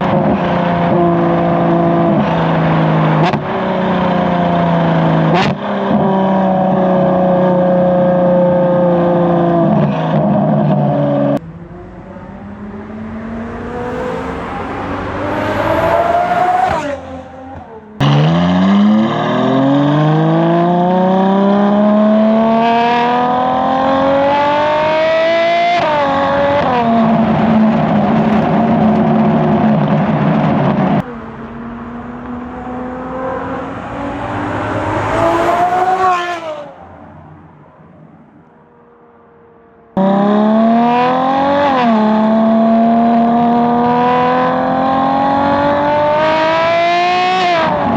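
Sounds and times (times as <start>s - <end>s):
car engine accelerating hard: 0.0s - 37.7s, 39.9s - 47.9s.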